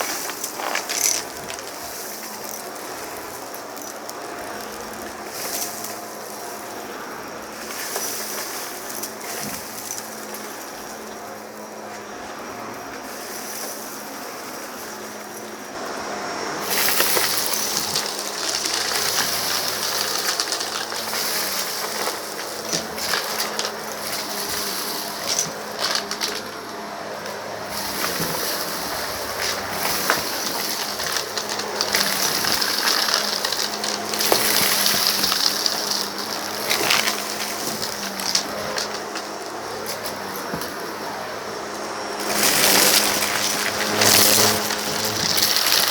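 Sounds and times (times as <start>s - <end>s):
debris crackling and rattling: 0.0s - 15.8s, 16.6s - 45.9s
vacuum cleaner running: 0.0s - 45.9s.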